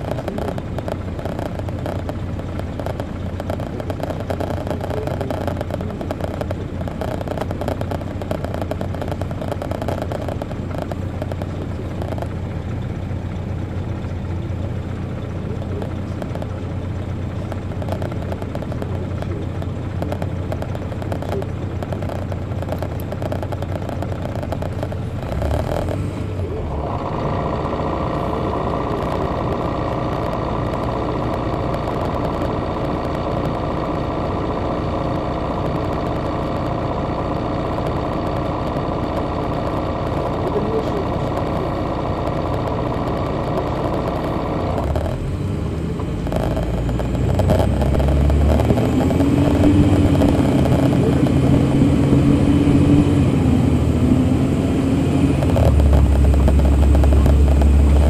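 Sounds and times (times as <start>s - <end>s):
diesel engine droning: 0.0s - 58.0s
rattling in bus cabin: 0.0s - 58.0s.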